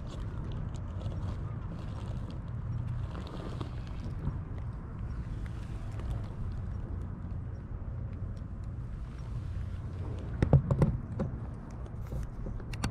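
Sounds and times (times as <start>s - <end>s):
low outdoor rumble: 0.0s - 12.9s.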